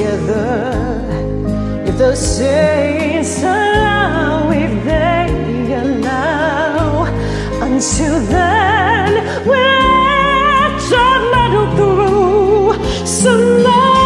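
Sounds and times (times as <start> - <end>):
karaoke backing track: 0.0 - 14.0
woman singing with vibrato: 0.0 - 14.0.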